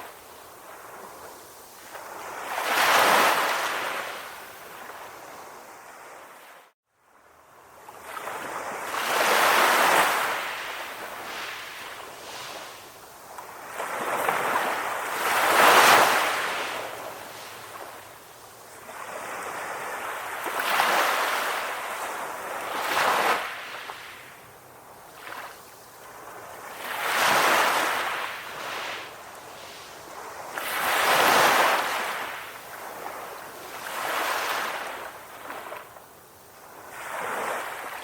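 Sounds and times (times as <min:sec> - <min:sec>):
ocean waves washing on shore: 0:00.0 - 0:38.0.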